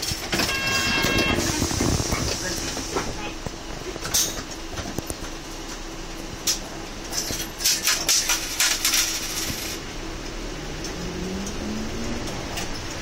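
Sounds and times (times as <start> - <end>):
bus cabin rattling: 0.0 - 9.8, 11.8 - 13.0
bus engine humming: 0.0 - 13.0.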